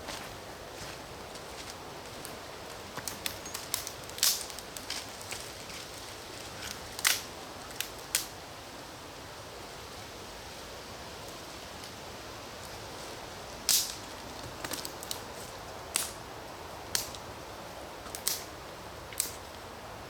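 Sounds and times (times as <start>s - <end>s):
campfire wood crackling: 0.1s - 8.7s, 11.1s - 19.7s.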